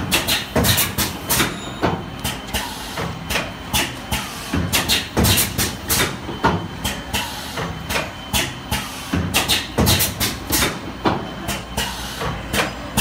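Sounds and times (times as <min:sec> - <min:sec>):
machine clacks: 0:00.0 - 0:13.0.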